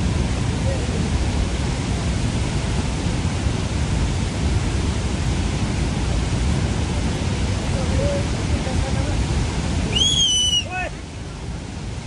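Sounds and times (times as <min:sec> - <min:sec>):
flooded river roaring: 0:00.0 - 0:12.0.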